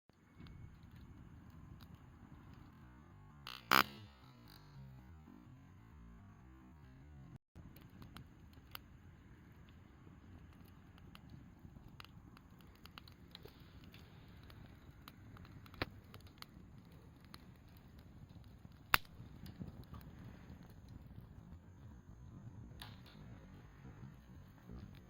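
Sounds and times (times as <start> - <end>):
fire popping and snapping: 0.1 - 4.8, 7.6 - 25.0
campfire crackling: 0.1 - 4.9, 7.6 - 25.0.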